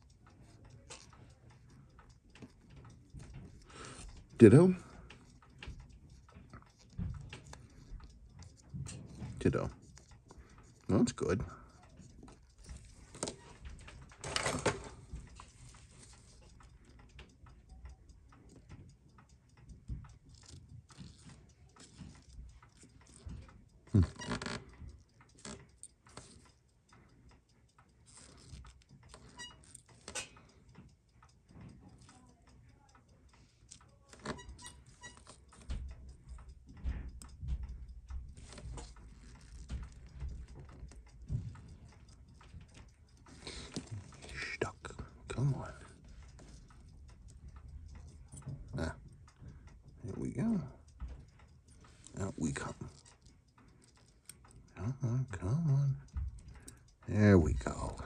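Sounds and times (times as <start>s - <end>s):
tweezers clicking on watch parts: 0.0s - 58.0s.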